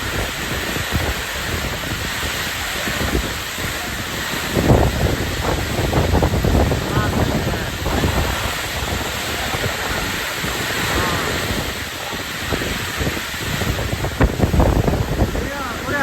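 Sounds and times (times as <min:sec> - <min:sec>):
heavy rain pouring: 0:00.0 - 0:16.0
wind buffeting microphone: 0:00.0 - 0:16.0.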